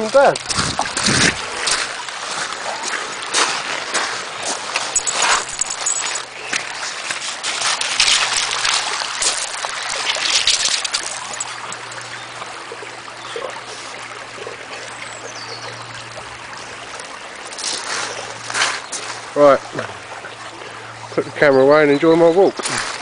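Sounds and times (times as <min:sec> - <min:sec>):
stream water trickling: 0:00.0 - 0:23.0.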